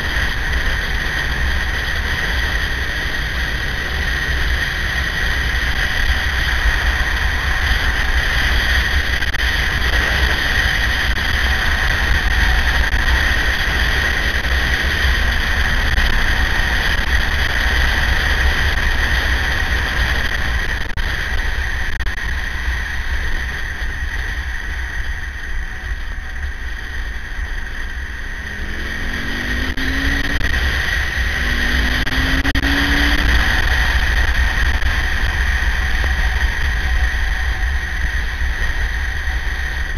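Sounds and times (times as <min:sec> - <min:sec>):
high whine: 0:00.0 - 0:39.9
motorcycle engine running: 0:00.0 - 0:39.9
wind rush on microphone: 0:00.0 - 0:39.9.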